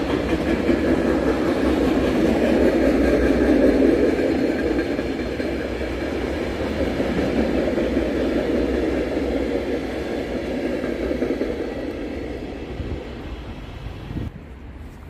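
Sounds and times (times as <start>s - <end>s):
freight train wheel rumble: 0.0s - 15.0s.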